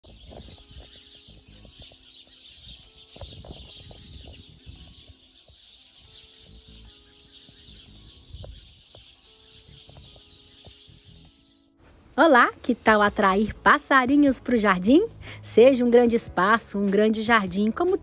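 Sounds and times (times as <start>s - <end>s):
small birds chirping: 0.0s - 18.0s
soft background music: 0.0s - 18.0s.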